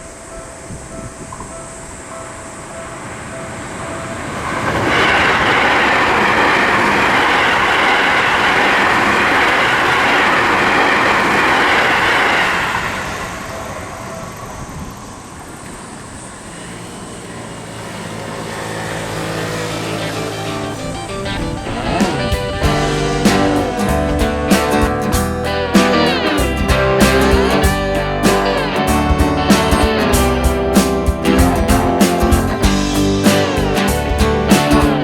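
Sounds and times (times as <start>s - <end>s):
train wheels rushing on rail: 0.0s - 35.0s.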